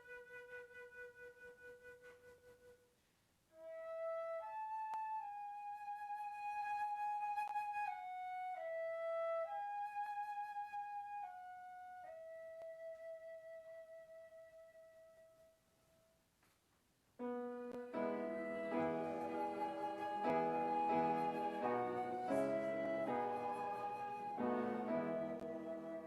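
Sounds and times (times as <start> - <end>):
slow flute melody: 0.0 - 2.9, 3.5 - 15.6, 17.2 - 26.0.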